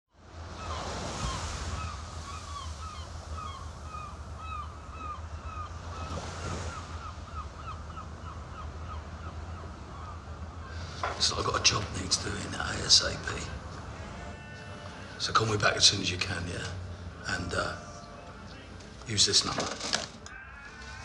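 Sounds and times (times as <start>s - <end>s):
wind: 0.1s - 21.0s
gulls calling: 0.2s - 21.0s
surf: 0.2s - 21.0s.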